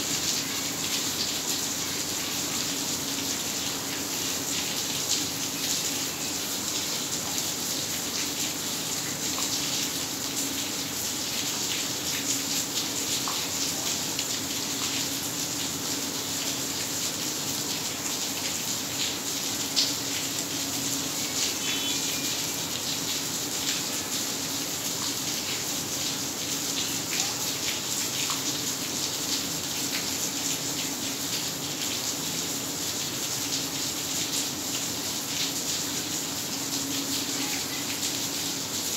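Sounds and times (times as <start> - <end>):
heavy rain splashing into water: 0.0 - 38.9.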